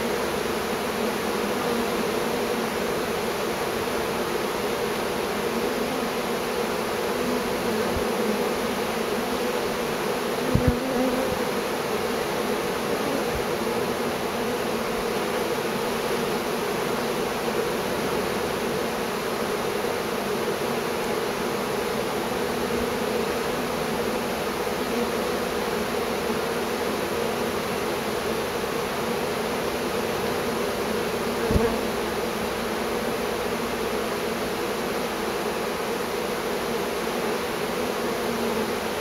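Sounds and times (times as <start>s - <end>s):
honeybee swarm buzzing: 0.0s - 39.0s.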